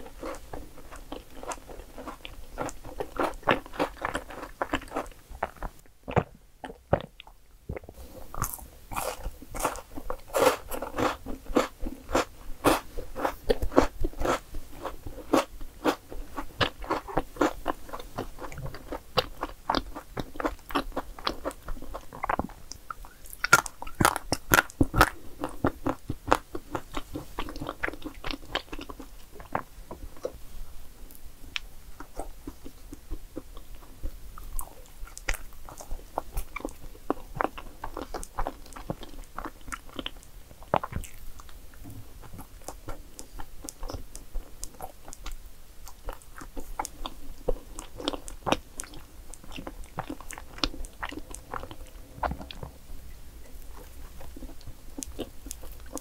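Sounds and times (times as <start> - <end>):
chewing and biting cake: 0.0 - 30.4, 31.5 - 41.6, 42.2 - 52.7.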